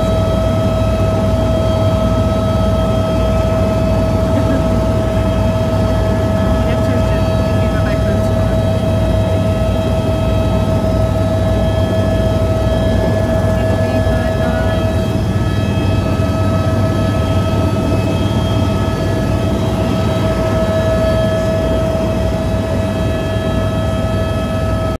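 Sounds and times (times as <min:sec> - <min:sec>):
high whine: 0:00.0 - 0:24.9
helicopter rotor and engine drone: 0:00.0 - 0:25.0.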